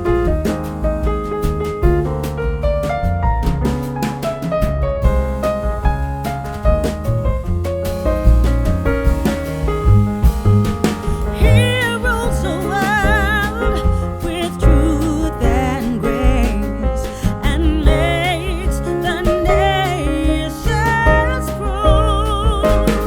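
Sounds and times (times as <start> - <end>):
piano or keyboard and bass: 0.0 - 23.0.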